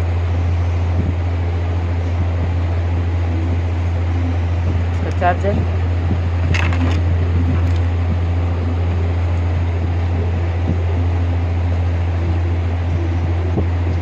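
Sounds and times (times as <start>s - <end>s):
loud steady low hum: 0.0s - 14.0s
noisy hiss: 0.0s - 14.0s.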